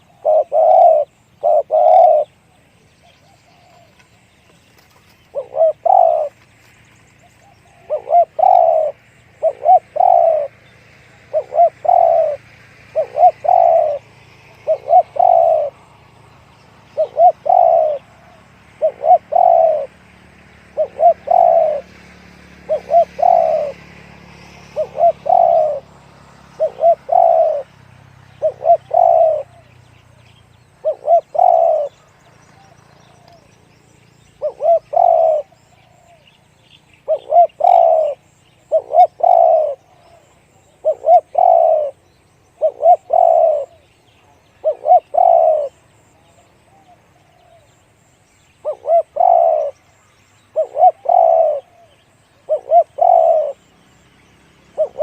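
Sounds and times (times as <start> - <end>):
dove cooing: 0.0 - 2.5, 3.2 - 4.2, 4.8 - 6.4, 7.3 - 16.2, 16.8 - 27.7, 28.3 - 29.8, 30.7 - 33.5, 34.2 - 36.4, 37.0 - 47.8, 48.6 - 53.7, 54.7 - 55.0.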